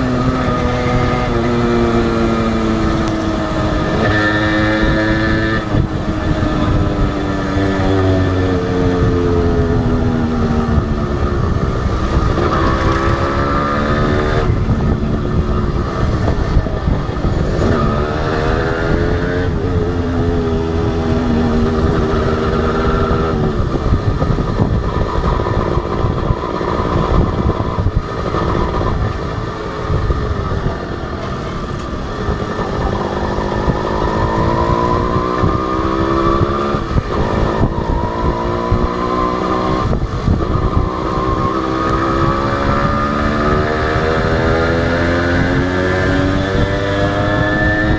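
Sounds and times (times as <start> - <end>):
two-stroke motorcycle accelerating: 0.0 - 47.9.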